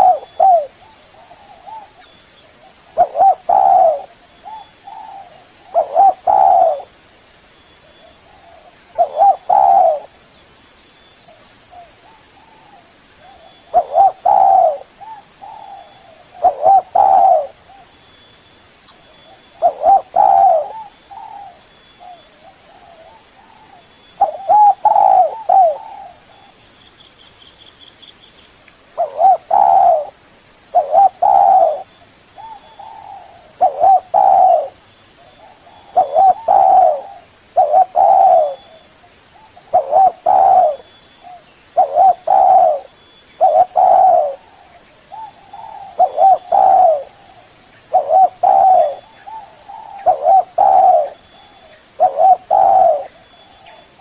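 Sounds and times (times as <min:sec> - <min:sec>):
dove cooing: 0:00.0 - 0:07.0, 0:07.8 - 0:10.2, 0:11.7 - 0:17.9, 0:19.2 - 0:26.6, 0:29.0 - 0:54.0.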